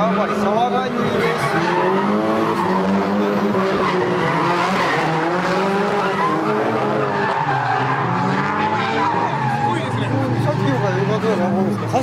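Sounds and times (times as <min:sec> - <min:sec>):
car engines revving: 0:00.0 - 0:12.0
tyres squealing: 0:00.4 - 0:12.0.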